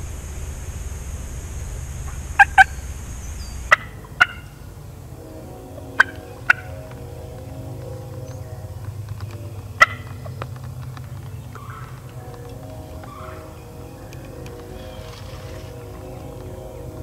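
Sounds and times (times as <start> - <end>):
turkey call notes: 2.0 - 17.0.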